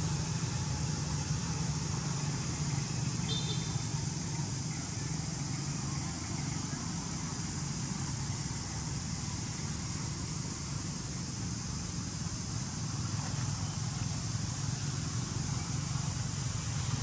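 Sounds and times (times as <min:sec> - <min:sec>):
continuous low rumble: 0:00.0 - 0:17.0
even hiss: 0:00.0 - 0:17.0.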